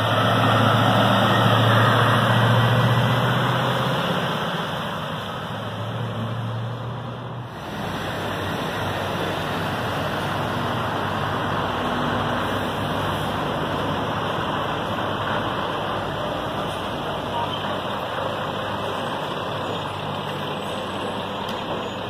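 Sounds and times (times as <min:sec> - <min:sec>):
lorry diesel engine driving past: 0:00.0 - 0:22.0
rumble of lorry engines: 0:00.0 - 0:22.0.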